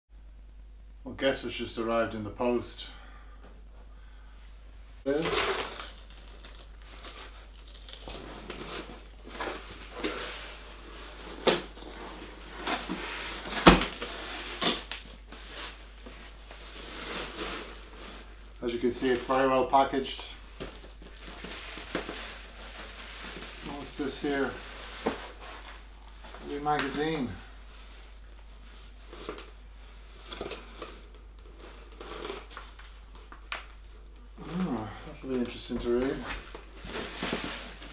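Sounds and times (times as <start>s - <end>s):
packaging rustling and tearing: 5.1s - 19.4s, 20.5s - 37.9s.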